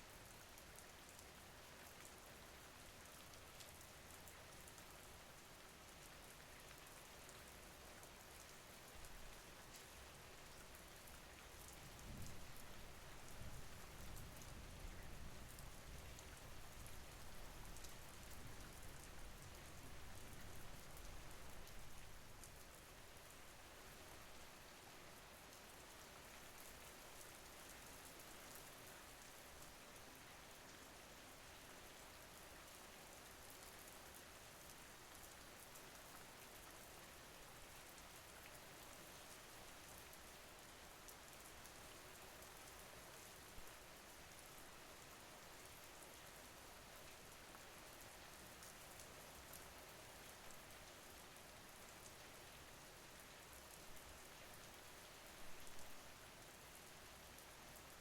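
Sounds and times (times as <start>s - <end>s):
faint rain falling: 0.0s - 58.0s.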